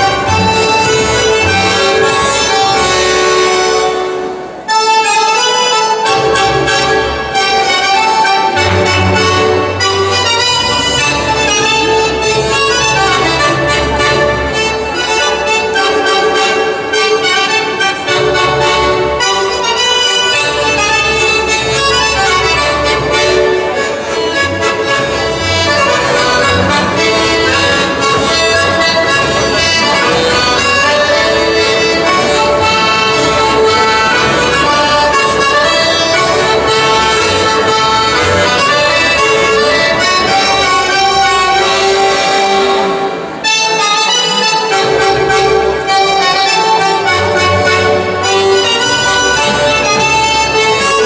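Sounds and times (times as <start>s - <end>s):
accordion playing dance tune: 0.0s - 51.0s
double bass: 0.0s - 51.0s.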